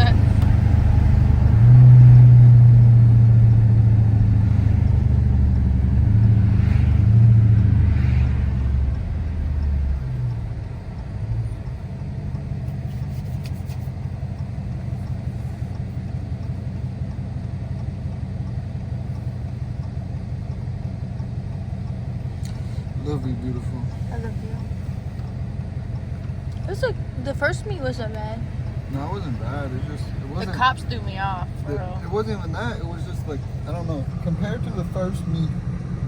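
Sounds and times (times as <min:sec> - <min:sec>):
car engine drone: 0:00.0 - 0:36.0
road noise: 0:00.0 - 0:36.0.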